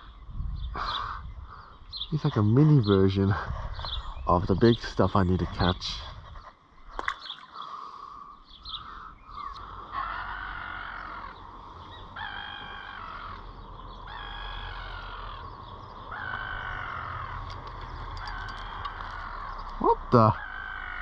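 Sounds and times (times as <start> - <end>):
bird calling: 0.0 - 21.0.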